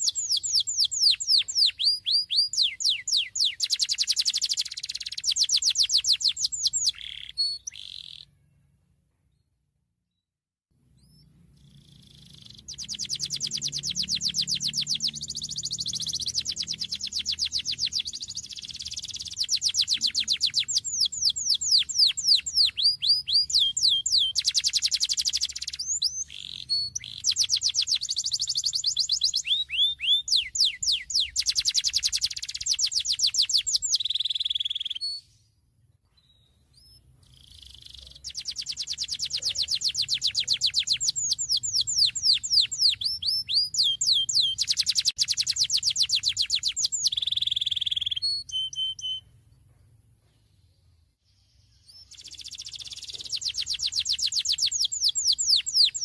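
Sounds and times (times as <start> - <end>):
canary singing trills: 0.0 - 8.8, 10.9 - 35.4, 36.2 - 49.4, 51.5 - 56.0.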